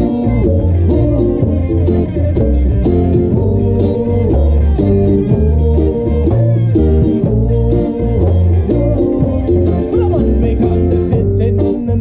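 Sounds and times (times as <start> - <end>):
deep bass notes: 0.0 - 12.0
reggae band playing: 0.0 - 12.0.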